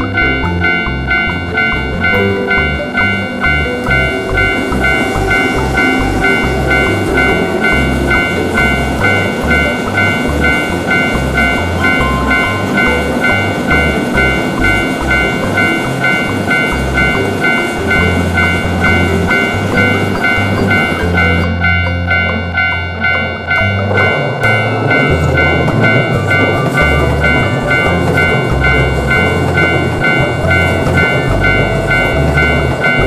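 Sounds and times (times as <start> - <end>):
background music: 0.0 - 33.0
crossing warning bell dinging: 0.0 - 33.0
low rumble: 0.0 - 33.0.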